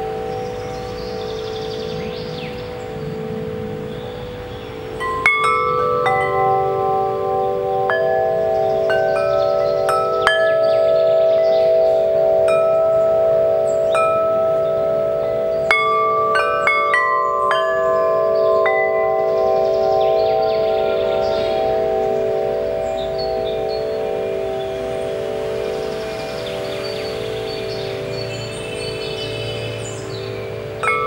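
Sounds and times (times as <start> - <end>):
wind chime ringing: 0.0 - 31.0.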